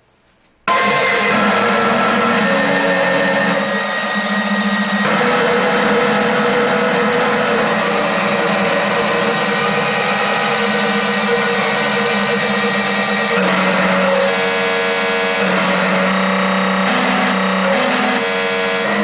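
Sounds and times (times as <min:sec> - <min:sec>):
harsh buzzing synthesizer glitch: 0:00.7 - 0:19.0
held synthesizer tones: 0:00.7 - 0:19.0.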